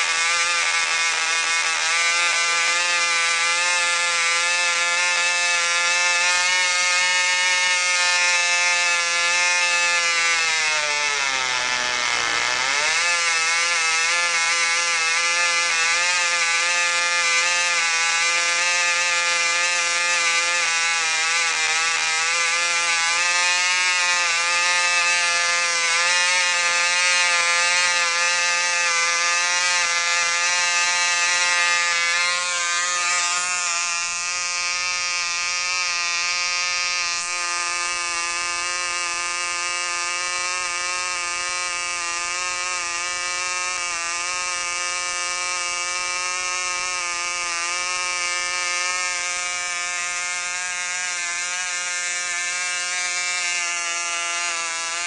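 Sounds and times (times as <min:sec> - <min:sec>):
model engine high-pitched buzz: 0:00.0 - 0:55.0.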